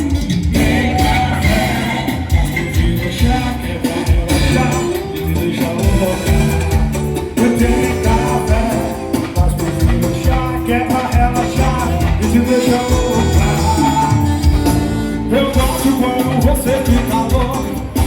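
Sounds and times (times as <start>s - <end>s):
carnival music with singing: 0.0s - 18.0s.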